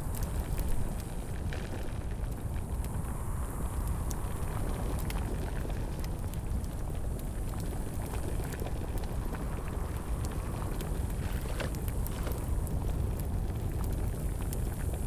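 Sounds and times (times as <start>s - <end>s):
crackles and pops: 0.0s - 15.0s.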